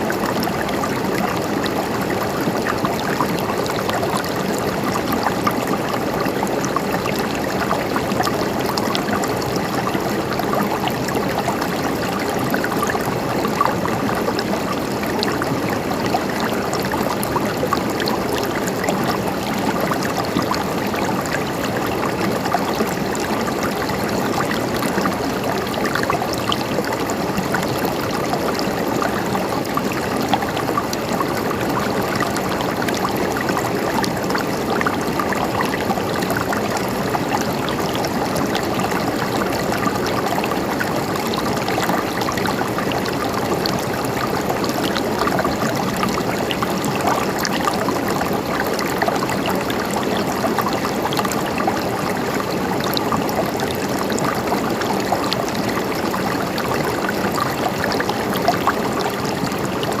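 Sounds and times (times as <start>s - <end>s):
river water gurgling over rocks: 0.0s - 60.0s.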